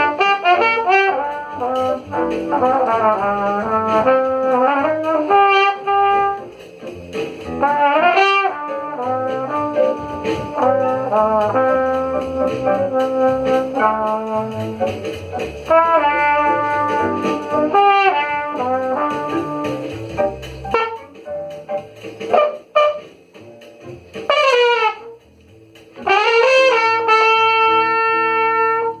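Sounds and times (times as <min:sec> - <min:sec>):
brass horn playing jazz: 0:00.0 - 0:29.0
walking bass: 0:00.0 - 0:29.0.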